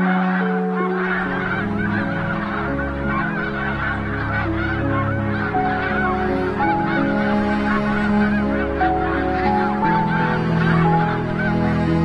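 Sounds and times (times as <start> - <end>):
background music with held notes: 0.0 - 12.0
geese honking: 0.0 - 12.0.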